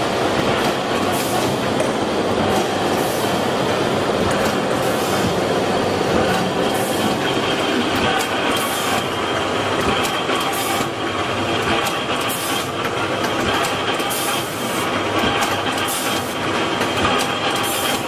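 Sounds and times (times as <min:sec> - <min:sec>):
machine mechanical clatter: 0:00.0 - 0:18.0.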